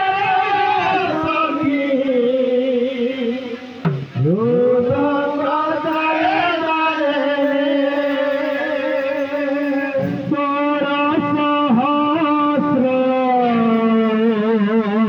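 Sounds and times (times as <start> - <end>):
person singing devotional music: 0.0 - 15.0.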